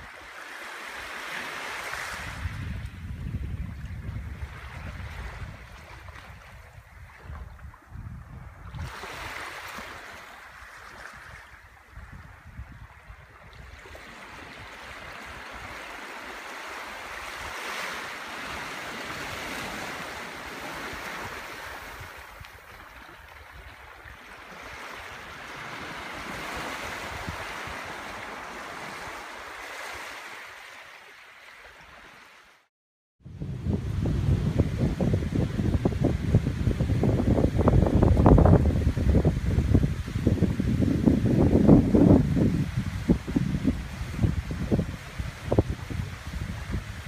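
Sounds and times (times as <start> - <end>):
small waves washing on shore: 0.0 - 32.7, 33.3 - 47.0
wind rumbling on microphone: 1.8 - 29.4, 33.2 - 47.0.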